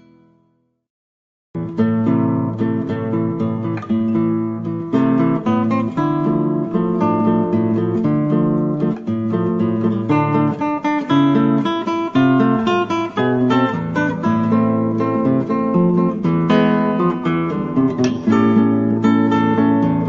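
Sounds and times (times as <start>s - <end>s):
acoustic guitar music: 0.0s - 0.7s, 1.6s - 20.0s.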